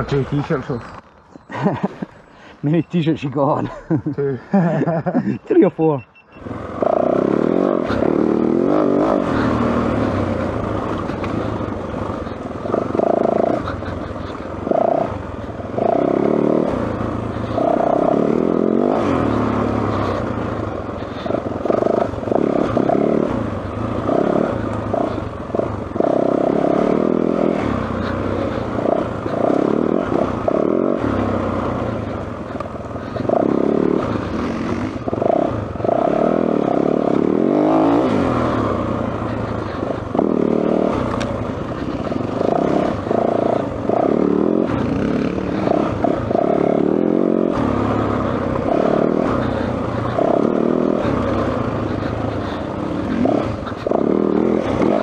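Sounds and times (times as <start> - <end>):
motorcycle engine revving: 6.3 - 55.0.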